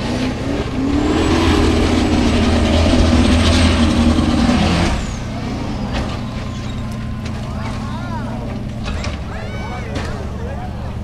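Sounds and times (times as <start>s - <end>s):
buggy engine at high revs: 0.0s - 11.0s
wheels spinning throwing dirt: 0.0s - 11.0s.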